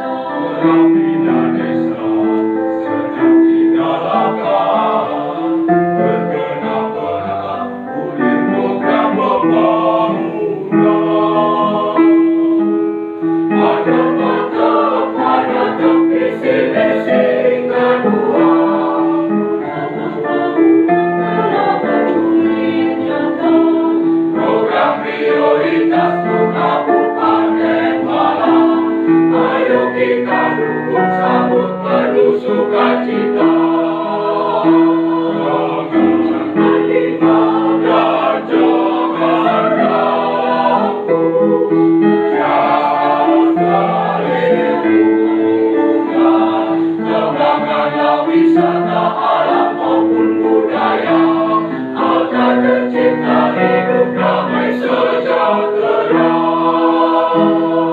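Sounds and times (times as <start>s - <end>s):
choir singing in parts: 0.0s - 57.9s.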